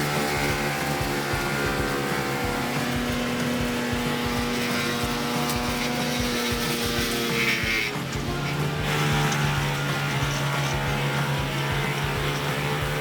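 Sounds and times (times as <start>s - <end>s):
wood chipper engine droning: 0.0s - 13.0s.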